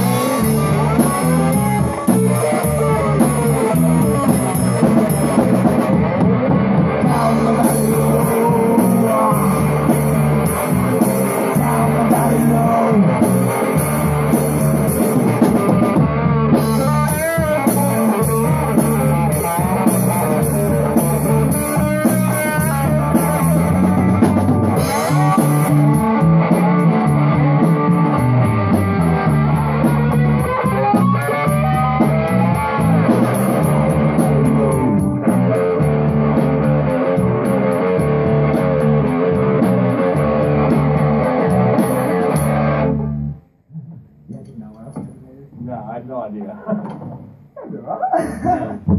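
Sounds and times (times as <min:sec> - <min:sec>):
electric guitar bending notes: 0:00.0 - 0:44.4
bass guitar line: 0:00.0 - 0:48.9
drum kit: 0:00.0 - 0:48.9.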